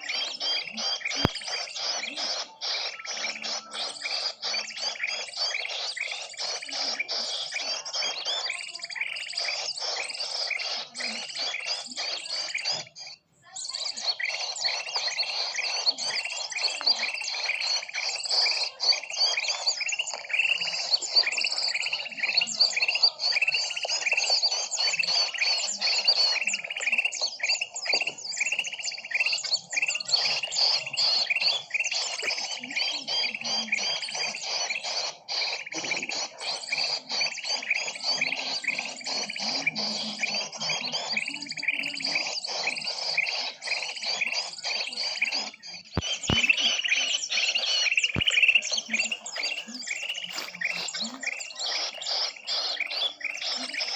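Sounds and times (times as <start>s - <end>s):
chorus of small birds chirping: 0.0s - 53.9s.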